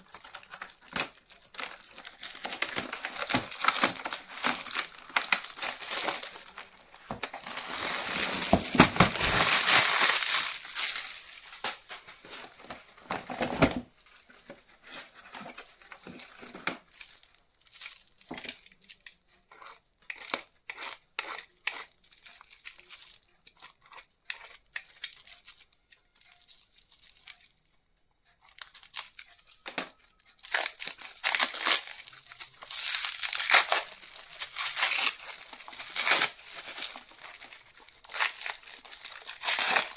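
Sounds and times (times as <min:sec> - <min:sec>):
packaging crinkling and tearing: 0:00.0 - 0:20.6, 0:21.4 - 0:39.9.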